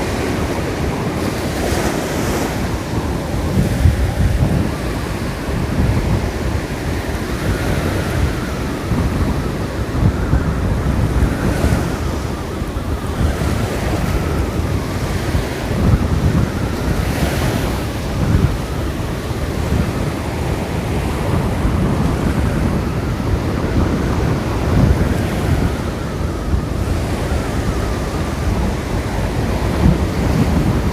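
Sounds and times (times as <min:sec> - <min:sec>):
surf washing onto beach: 0:00.0 - 0:30.9
wind buffeting microphone: 0:00.0 - 0:30.9.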